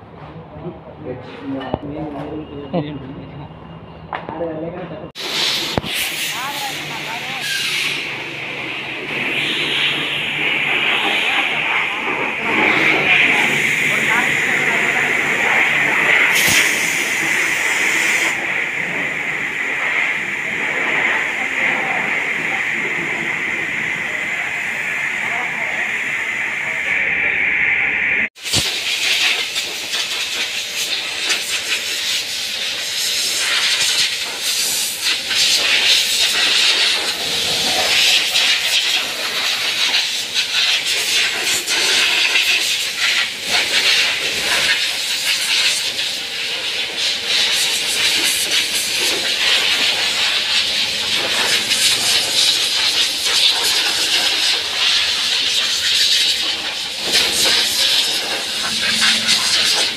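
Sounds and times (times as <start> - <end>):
compressed air hissing: 5.2 - 27.6, 28.3 - 59.9.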